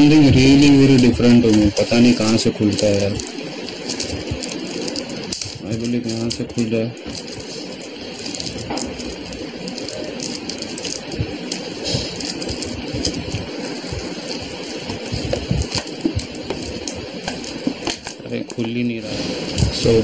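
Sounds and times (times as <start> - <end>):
fingers scratching plastic: 0.0 - 20.0
plastic wrap crinkling: 0.0 - 20.0.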